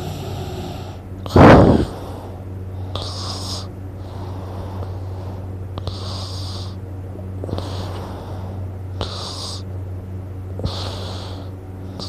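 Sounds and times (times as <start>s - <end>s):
person breathing noisily: 0.0s - 6.8s, 7.4s - 9.7s, 10.6s - 12.0s
steady low hum: 0.0s - 12.0s.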